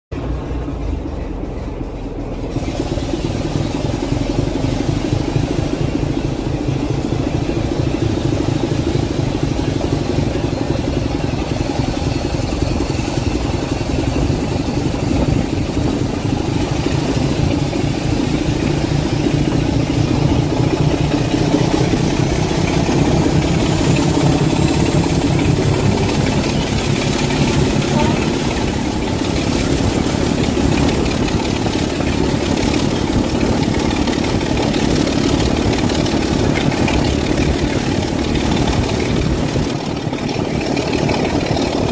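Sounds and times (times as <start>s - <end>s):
diesel locomotive engine running: 0.1s - 41.9s.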